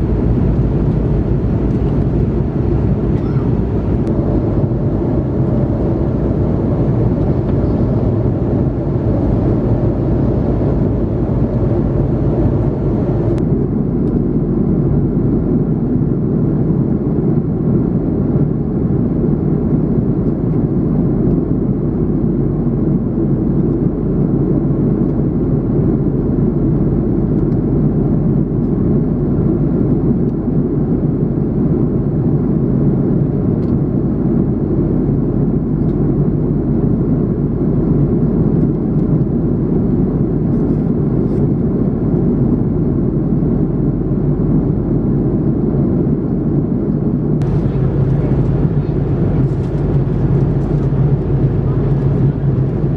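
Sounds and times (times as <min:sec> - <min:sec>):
jet engine drone: 0:00.0 - 0:52.9.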